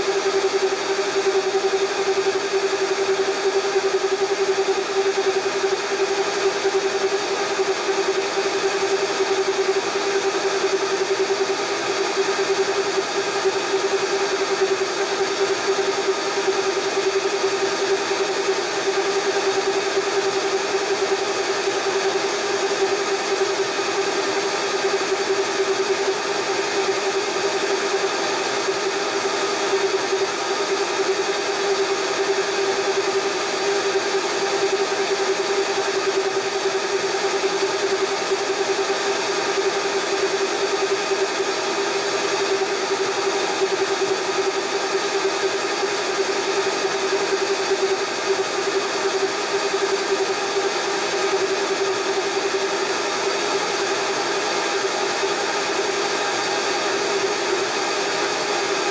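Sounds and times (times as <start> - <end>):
blender motor whine: 0.0 - 58.9.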